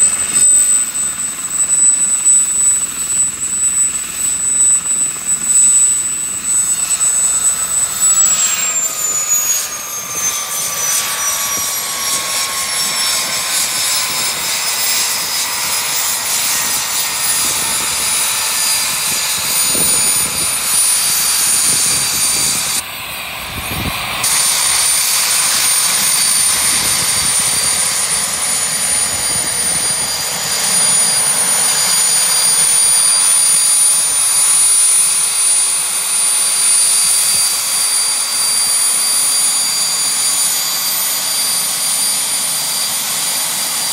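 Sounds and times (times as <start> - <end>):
high turbine whine: 0.0 - 43.9.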